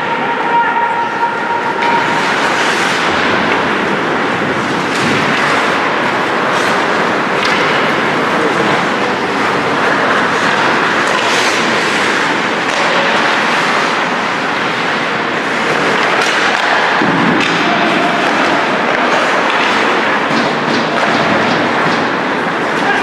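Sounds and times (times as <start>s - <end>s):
hockey sticks and puck clacking: 0.0s - 23.0s
skates scraping on ice: 0.6s - 23.0s.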